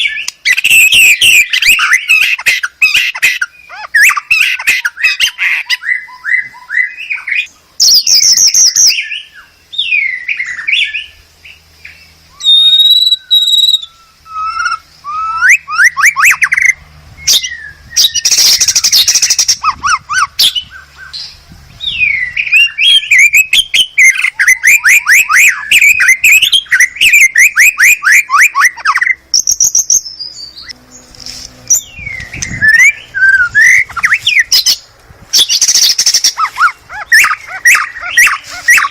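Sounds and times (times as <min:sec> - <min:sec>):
bird singing whistles: 0:00.0 - 0:02.6, 0:03.2 - 0:30.8, 0:31.7 - 0:34.8, 0:35.4 - 0:38.9
harsh rasping bird call: 0:00.0 - 0:38.9.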